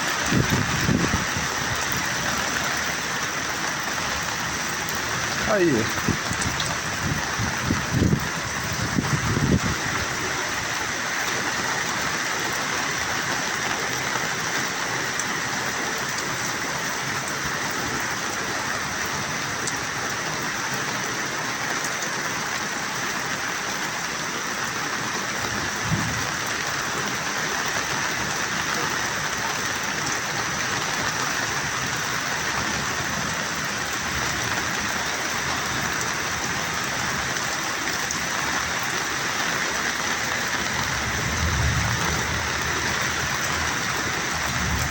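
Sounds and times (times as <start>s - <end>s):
heavy rain hissing: 0.0s - 44.9s.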